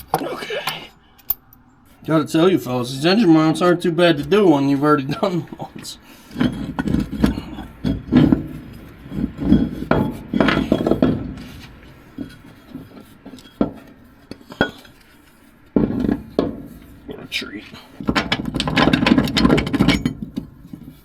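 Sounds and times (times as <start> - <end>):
hand tools clinking on steel: 0.0 - 21.0.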